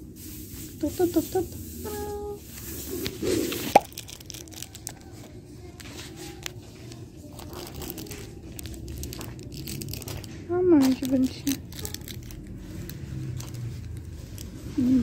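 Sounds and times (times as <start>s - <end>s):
plastic bags crinkling: 2.5s - 15.0s.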